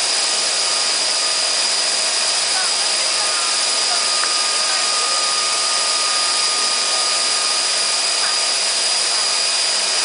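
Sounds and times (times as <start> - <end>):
high-pitched machine whine: 0.0 - 10.0.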